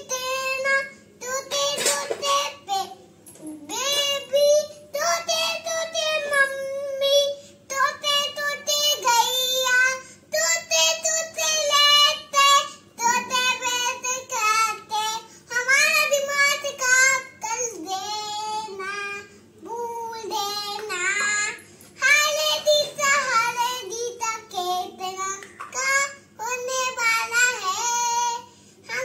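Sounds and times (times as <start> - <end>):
child singing a hymn: 0.0 - 29.0.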